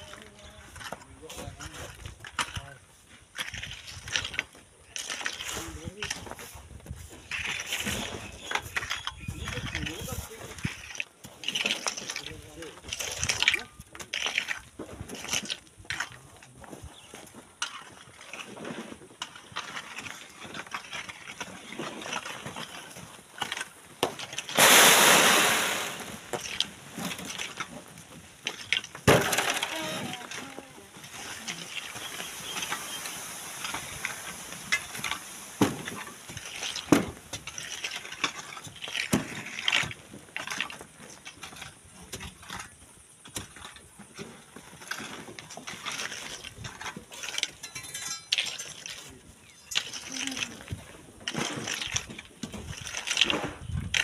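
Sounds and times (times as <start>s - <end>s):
rocks knocking and clinking: 0.0s - 54.0s
sand and rocks sliding: 0.0s - 54.0s.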